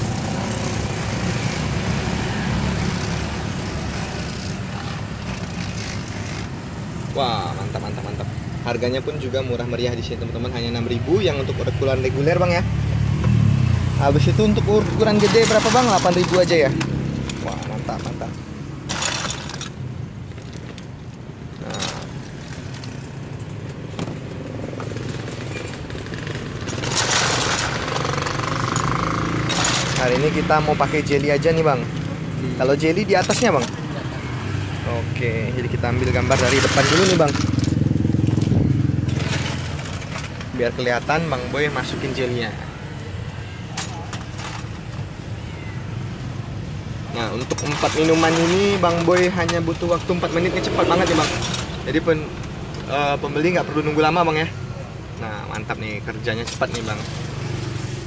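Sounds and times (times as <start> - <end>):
road traffic rumble: 0.0 - 58.0
vehicle engines running: 0.0 - 58.0.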